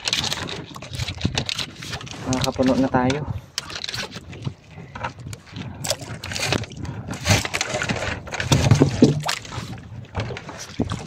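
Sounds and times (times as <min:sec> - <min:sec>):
rustles taps and knocks on a boat: 0:00.0 - 0:11.0.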